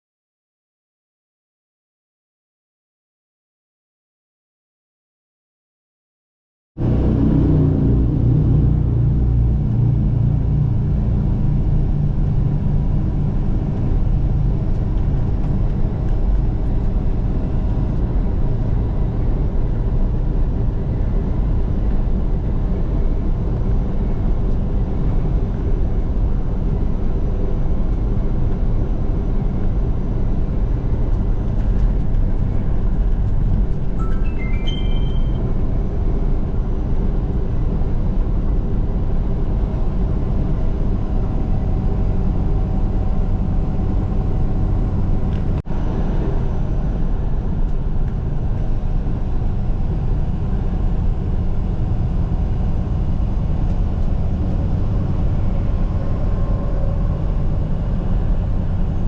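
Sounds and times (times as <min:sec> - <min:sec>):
truck engine and road rumble: 0:06.8 - 0:59.0.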